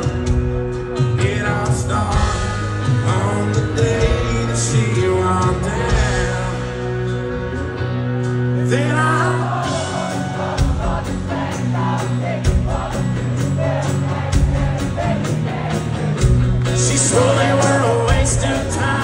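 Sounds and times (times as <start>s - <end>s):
country rock band playing live: 0.0s - 19.0s.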